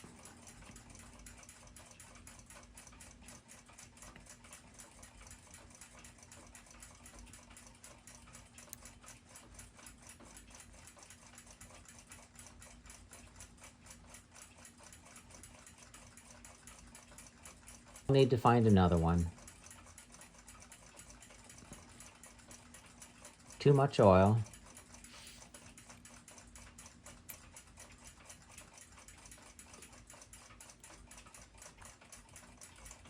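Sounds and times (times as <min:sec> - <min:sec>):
mechanical clock ticking: 0:00.0 - 0:33.0.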